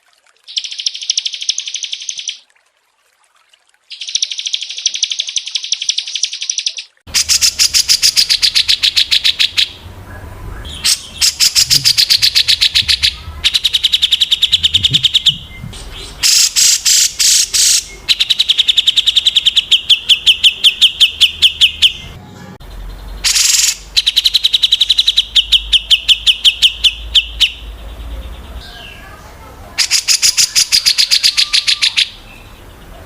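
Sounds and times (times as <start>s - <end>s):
songbirds trilling chirps: 0.4s - 2.4s, 3.9s - 33.0s.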